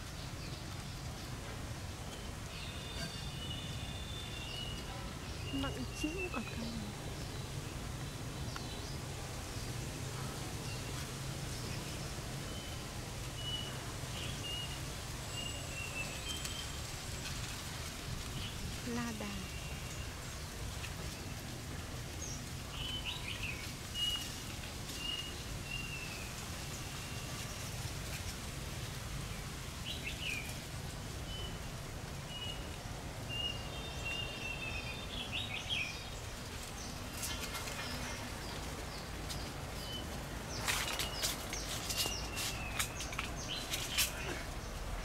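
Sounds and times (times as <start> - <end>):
low outdoor air rumble: 0.0 - 45.0
small birds chirping: 0.0 - 45.0.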